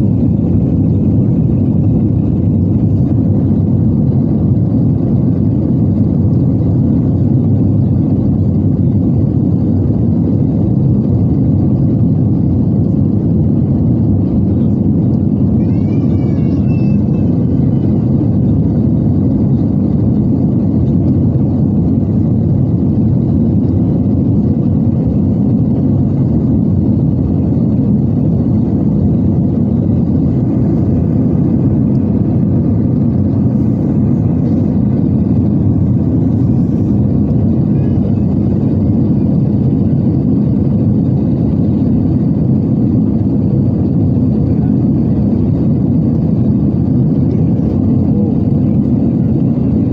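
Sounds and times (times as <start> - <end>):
aircraft cabin drone: 0.0 - 49.9.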